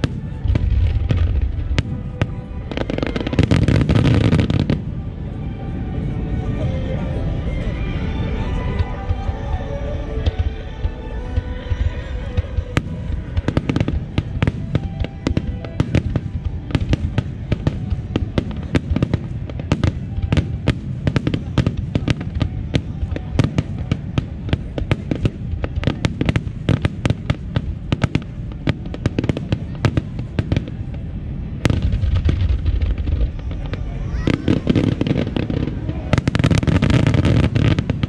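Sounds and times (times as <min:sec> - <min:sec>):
fireworks bangs and crackles: 0:00.0 - 0:38.0
music with held notes: 0:00.0 - 0:38.0.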